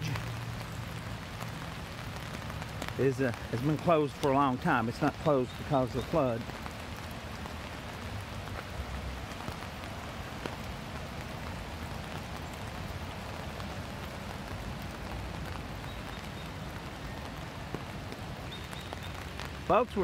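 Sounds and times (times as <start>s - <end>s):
rain hissing: 0.0s - 20.0s
raindrops ticking: 0.0s - 20.0s.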